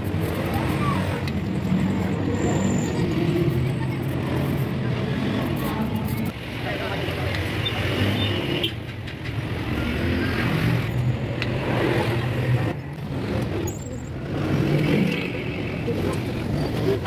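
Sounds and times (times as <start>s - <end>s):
vehicle engines passing: 0.0s - 17.0s.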